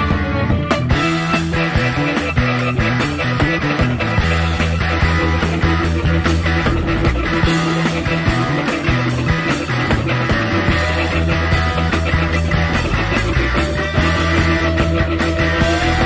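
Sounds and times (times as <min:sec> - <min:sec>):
rock music: 0:00.0 - 0:16.0
sliding lead guitar line: 0:00.0 - 0:16.0.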